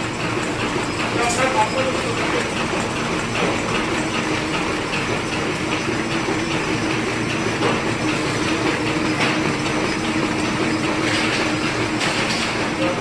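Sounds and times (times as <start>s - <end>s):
continuous mechanical clatter: 0.0s - 13.0s
machine hum: 0.0s - 13.0s.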